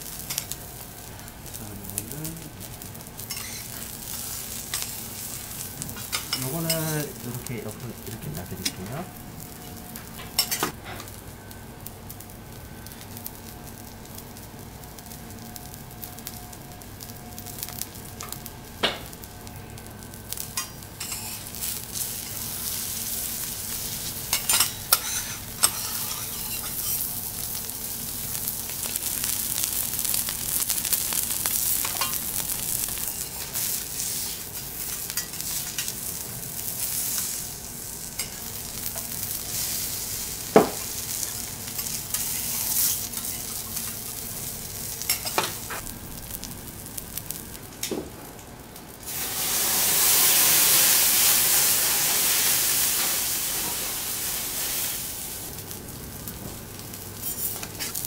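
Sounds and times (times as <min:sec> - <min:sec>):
steak sizzling on a griddle: 0:00.0 - 0:47.8, 0:48.8 - 0:58.0.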